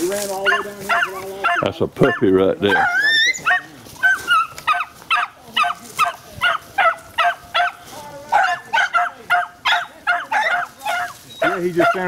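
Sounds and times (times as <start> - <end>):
puppy yelping barks: 0.4 - 12.0.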